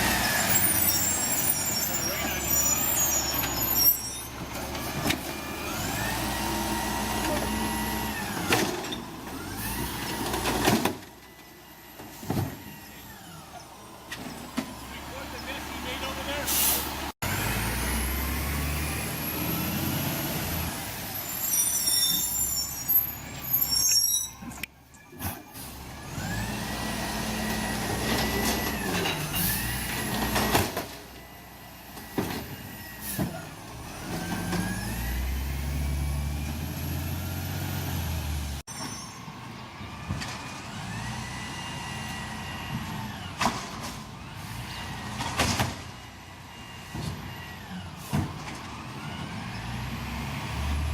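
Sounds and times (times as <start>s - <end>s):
diesel engine revving: 0.0s - 10.7s, 14.8s - 21.3s, 25.6s - 38.7s, 39.9s - 50.9s.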